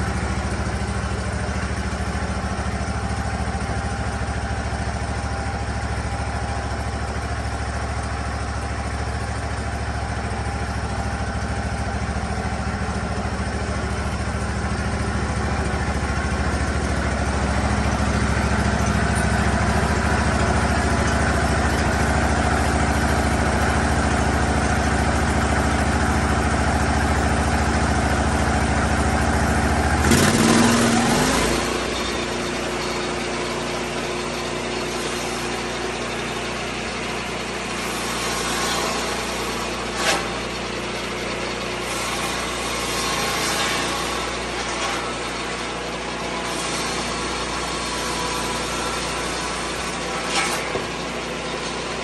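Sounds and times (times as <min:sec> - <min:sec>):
sawmill petrol engine running: 0:00.0 - 0:52.0.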